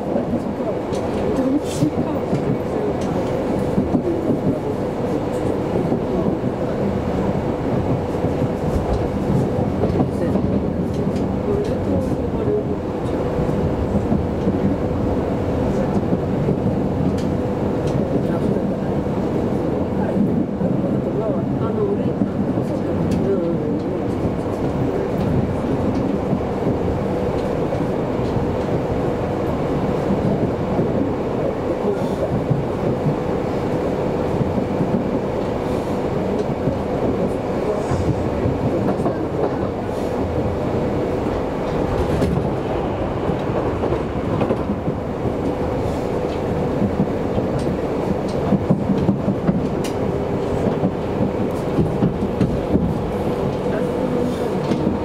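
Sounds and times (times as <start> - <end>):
train rumble with whine: 0.0 - 55.0.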